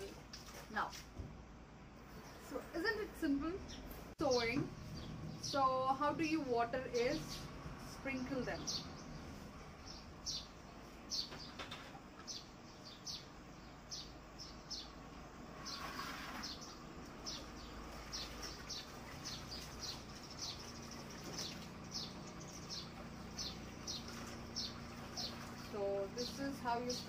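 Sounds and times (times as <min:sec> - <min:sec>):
small birds chirping: 0:01.9 - 0:27.0.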